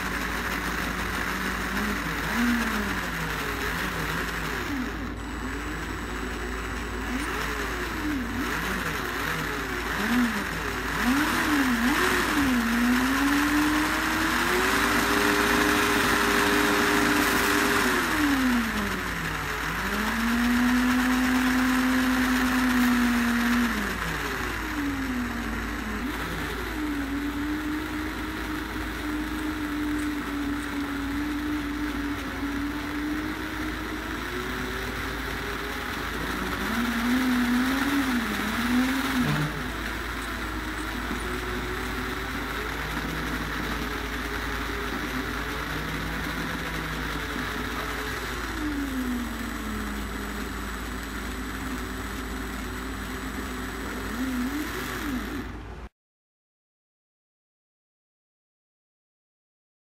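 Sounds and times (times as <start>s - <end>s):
small electric motor whining: 0.0s - 55.9s.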